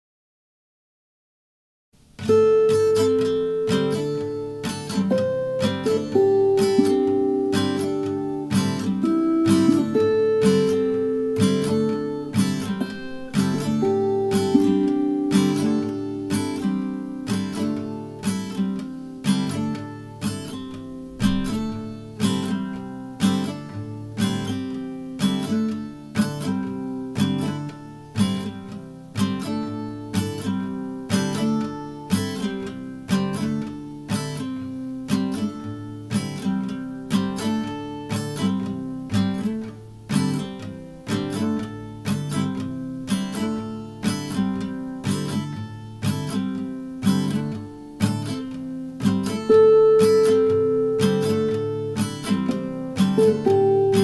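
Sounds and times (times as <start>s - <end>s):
acoustic guitar strummed and plucked: 2.0s - 54.0s.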